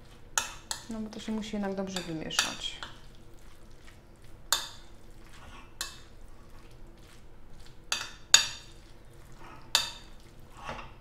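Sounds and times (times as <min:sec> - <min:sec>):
utensil stirring wet salad: 0:00.0 - 0:11.0.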